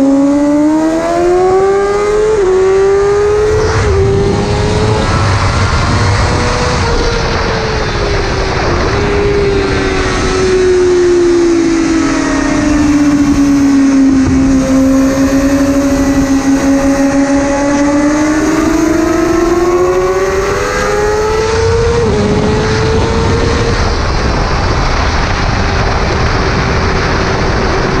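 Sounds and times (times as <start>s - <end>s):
motorcycle engine revving: 0.0s - 28.0s
wind rush: 0.0s - 28.0s.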